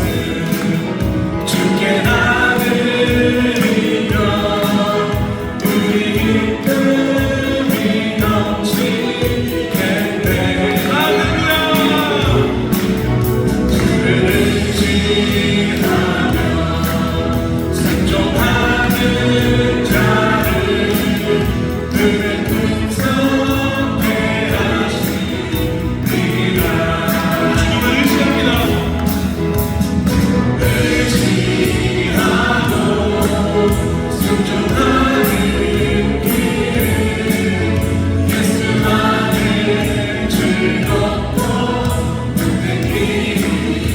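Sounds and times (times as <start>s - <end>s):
gospel choir singing: 0.0s - 43.9s
instrumental backing: 0.0s - 43.9s.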